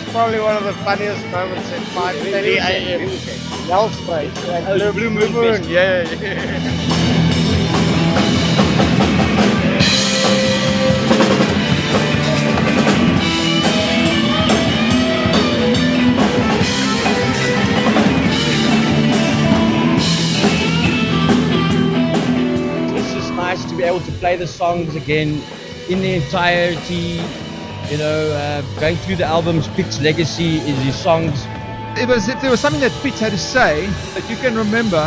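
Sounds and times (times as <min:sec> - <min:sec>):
cymbals: 0:00.0 - 0:31.8, 0:32.4 - 0:35.0
rock band playing: 0:00.0 - 0:35.0.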